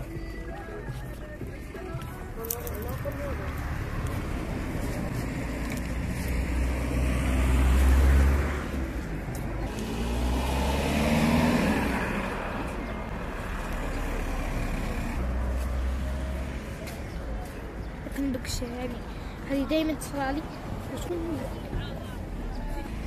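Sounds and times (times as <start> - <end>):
cars passing: 0.0 - 23.0
low traffic rumble: 0.0 - 23.0.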